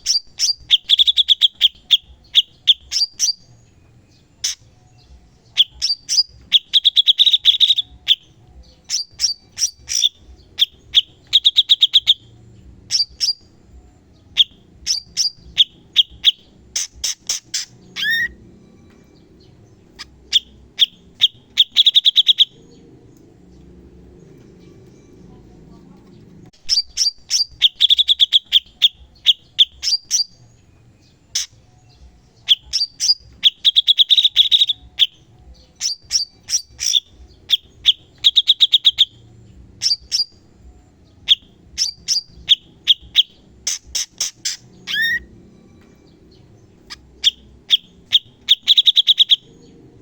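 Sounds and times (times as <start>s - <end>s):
songbird singing rapid trills: 0.0s - 50.0s.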